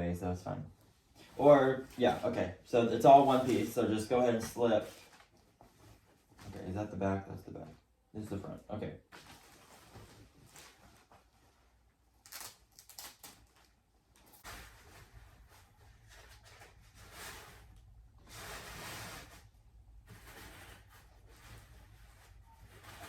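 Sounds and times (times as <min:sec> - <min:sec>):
costume fabric rustling: 0:00.7 - 0:06.8, 0:09.1 - 0:23.0.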